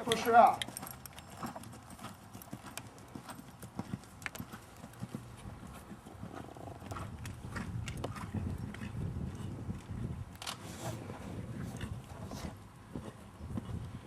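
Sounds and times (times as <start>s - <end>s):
horse hoofbeats on ground: 0.0s - 10.4s, 11.0s - 14.0s.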